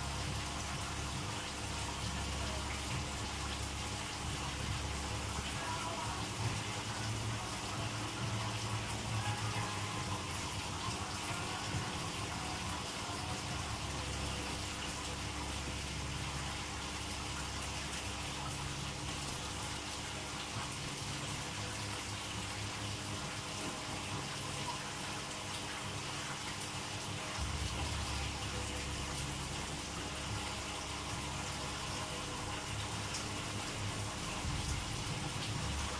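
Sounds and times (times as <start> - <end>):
water rushing and splashing: 0.0 - 35.9.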